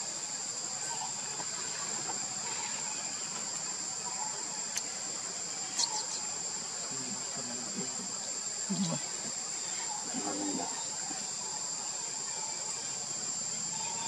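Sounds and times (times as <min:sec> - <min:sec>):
faint chirps: 0:00.0 - 0:14.0
high-pitched insect drone: 0:00.0 - 0:14.0.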